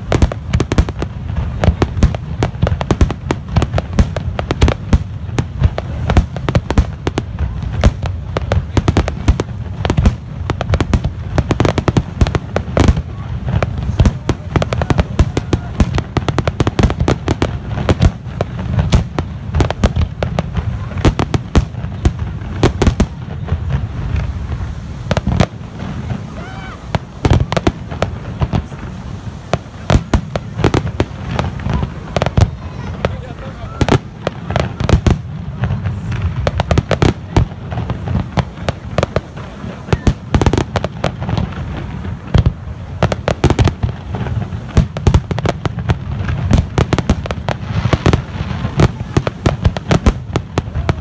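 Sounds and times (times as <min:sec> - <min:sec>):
fireworks bursting bangs and cracks: 0:00.0 - 0:51.0.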